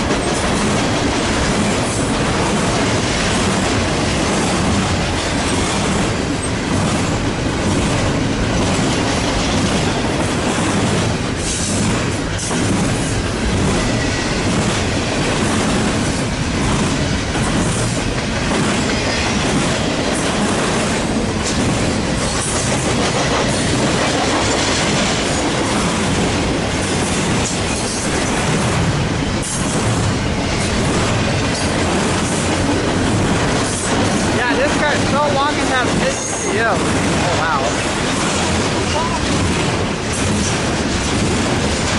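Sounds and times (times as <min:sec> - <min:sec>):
freight train rumbling past: 0:00.0 - 0:41.9
wheels clickety-clack on rails: 0:00.0 - 0:41.9.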